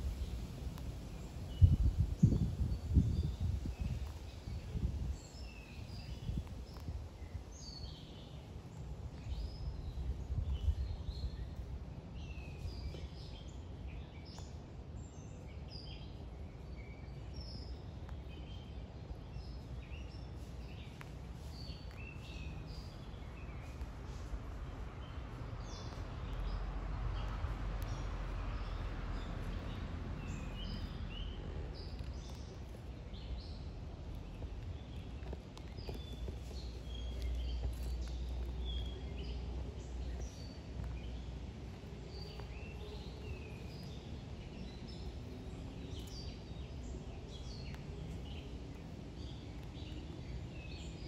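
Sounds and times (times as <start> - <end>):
small birds chirping: 0.0 - 14.6, 15.2 - 51.0.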